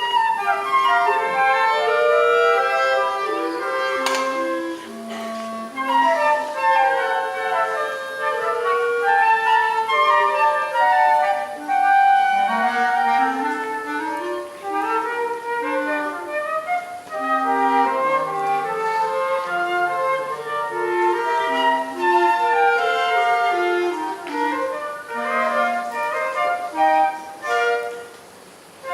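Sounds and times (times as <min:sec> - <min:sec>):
woodwind ensemble playing: 0:00.0 - 0:28.9.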